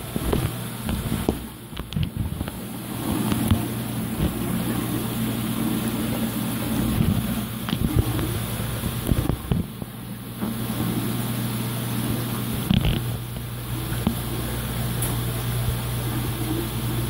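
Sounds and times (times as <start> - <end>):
aquarium pump hum: 0.0 - 17.0.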